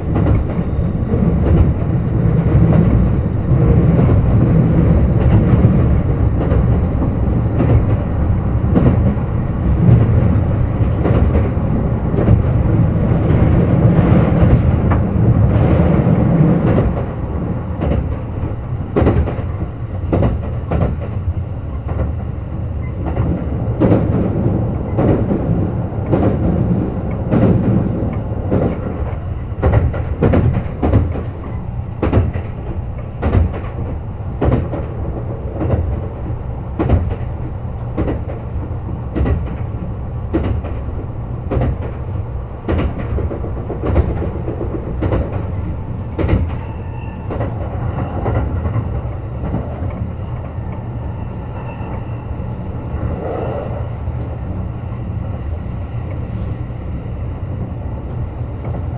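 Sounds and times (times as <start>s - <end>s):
wheels clacking over rail joints: 0.0s - 50.8s
train low rumble: 0.0s - 58.9s.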